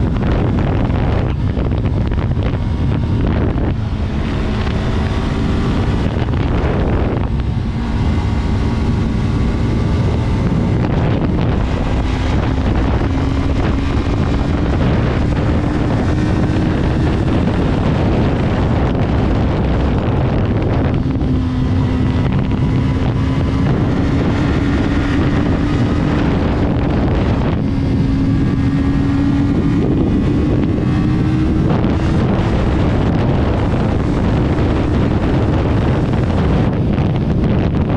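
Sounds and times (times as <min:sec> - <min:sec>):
motorcycle engine revving: 0:00.0 - 0:37.9
wind rush on microphone: 0:00.0 - 0:37.9.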